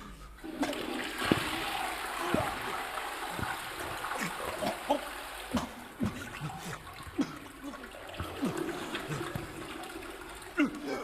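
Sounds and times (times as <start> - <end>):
man retching and gagging: 0.0 - 11.0
running water: 0.0 - 11.0.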